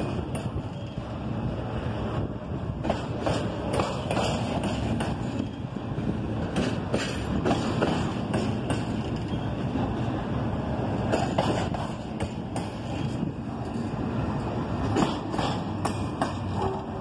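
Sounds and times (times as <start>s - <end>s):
steel wheels rumbling on rails: 0.0s - 17.0s.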